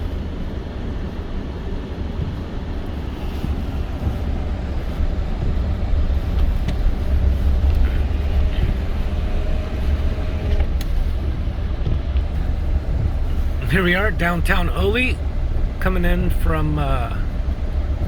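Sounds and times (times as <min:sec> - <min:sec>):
truck engine and tyres rumbling: 0:00.0 - 0:18.0.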